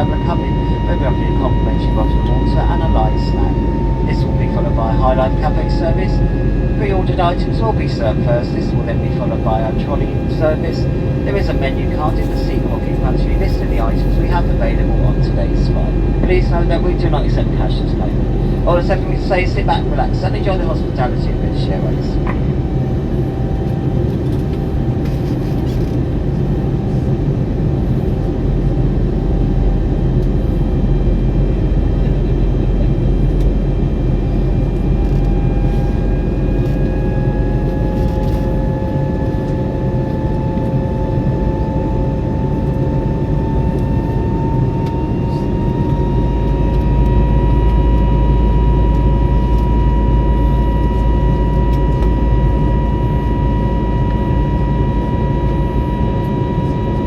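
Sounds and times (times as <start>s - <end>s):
deep engine rumble: 0.0s - 57.0s
jet engine whine rising: 0.0s - 57.0s.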